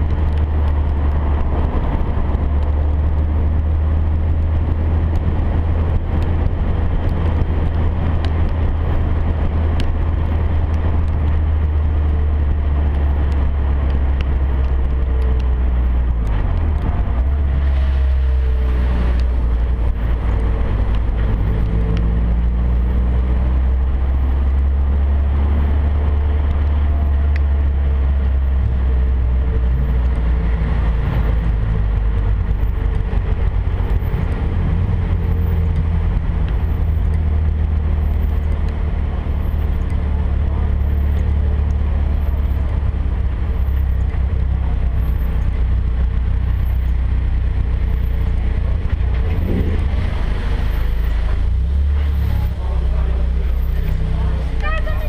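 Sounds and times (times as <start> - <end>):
faint car engine: 0.0 - 55.0
road noise: 0.0 - 55.0.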